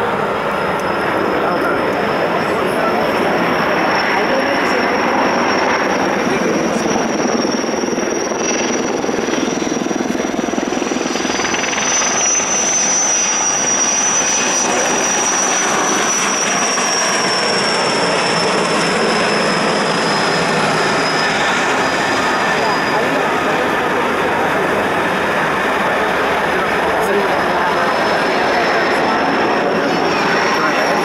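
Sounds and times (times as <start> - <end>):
helicopter rotor and engine noise: 0.0 - 31.0.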